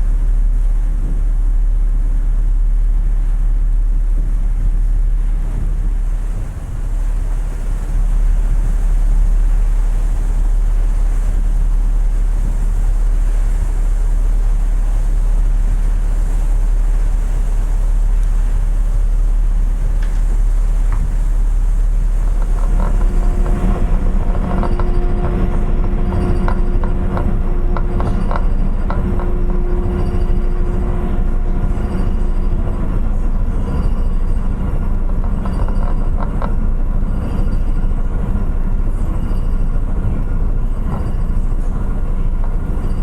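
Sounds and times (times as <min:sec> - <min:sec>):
ferry engines rumbling: 0:00.0 - 0:43.0
wind buffeting microphone: 0:00.0 - 0:43.0.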